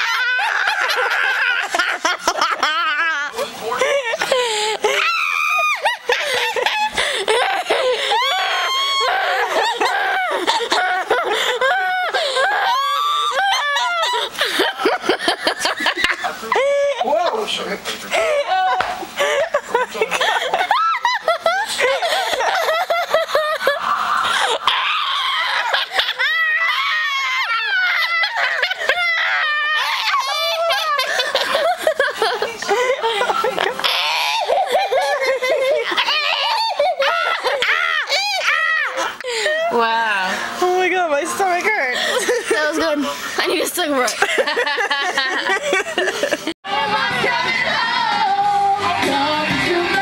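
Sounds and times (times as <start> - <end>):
women laughing hysterically: 0.0 - 17.5, 18.1 - 40.0, 41.7 - 47.1.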